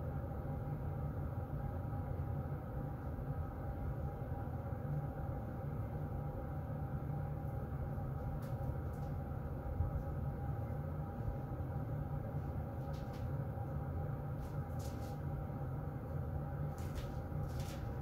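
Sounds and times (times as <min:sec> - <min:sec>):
faint hum: 0:00.0 - 0:18.0
heater vent blowing air: 0:00.0 - 0:18.0.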